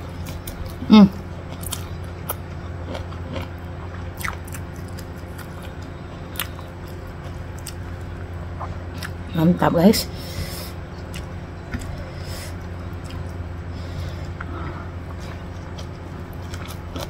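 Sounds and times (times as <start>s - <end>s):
person chewing: 0.0s - 9.2s, 10.7s - 17.0s
steady low hum: 0.0s - 17.0s.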